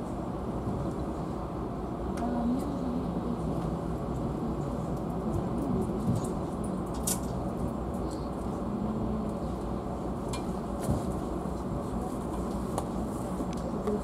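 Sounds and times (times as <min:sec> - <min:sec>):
railway car rumble: 0:00.0 - 0:14.0.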